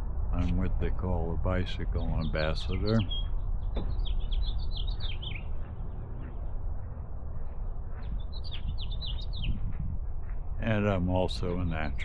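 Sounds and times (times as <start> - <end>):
songbirds chirping: 0.0 - 12.0
wind buffeting microphone: 0.0 - 12.0.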